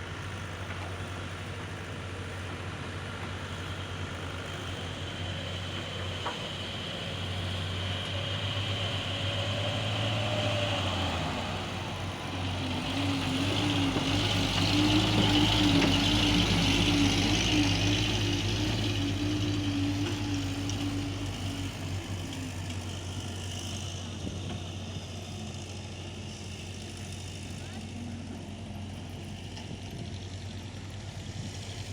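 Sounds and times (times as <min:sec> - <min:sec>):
truck diesel engine running: 0:00.0 - 0:31.9.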